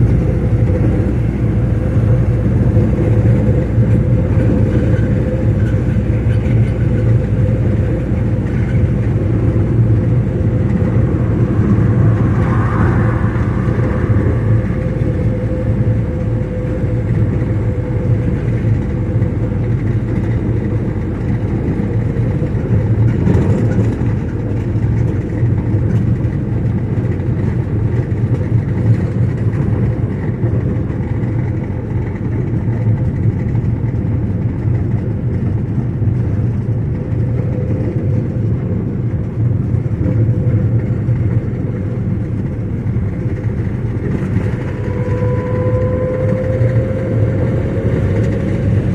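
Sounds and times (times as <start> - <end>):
vehicle engine and road rumble: 0.0 - 48.9.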